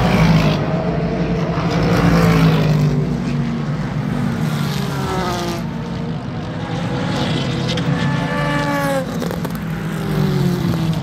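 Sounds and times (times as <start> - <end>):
race cars passing at speed: 0.0 - 11.0
rumble of engines: 0.0 - 11.0.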